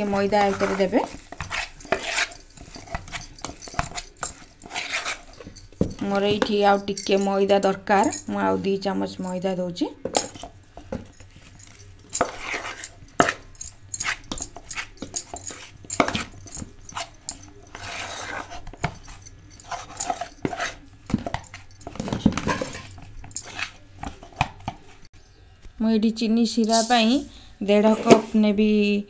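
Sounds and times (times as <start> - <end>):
spoon scraping steel bowl: 0.0 - 25.1, 26.6 - 27.2, 27.8 - 28.4.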